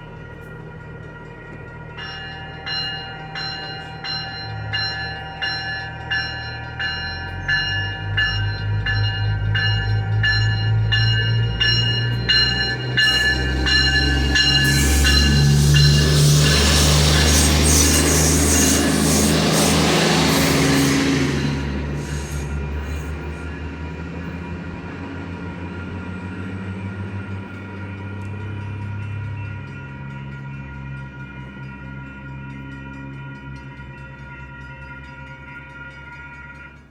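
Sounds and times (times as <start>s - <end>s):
railroad crossing bell ringing: 0.0s - 36.9s
train rumbling: 0.0s - 36.9s
train wheel and rail noise: 0.0s - 36.9s.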